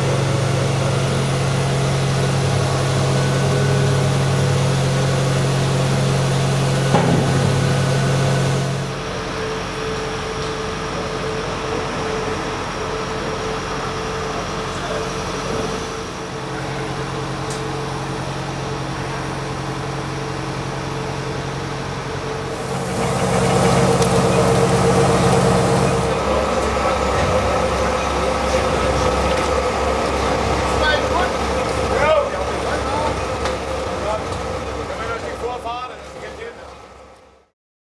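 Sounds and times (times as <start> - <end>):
heavy diesel engine under load: 0.0 - 37.5.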